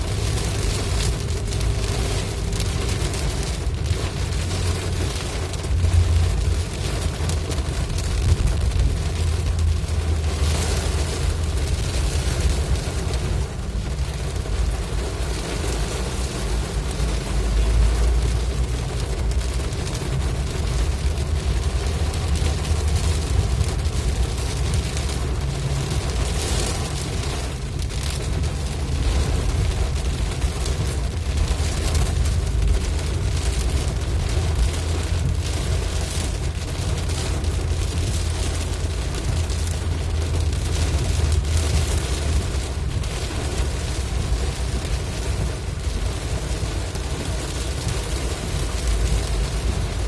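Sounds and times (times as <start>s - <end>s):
rain and road spray hiss: 0.0s - 50.0s
vehicle and road rumble: 0.0s - 50.0s.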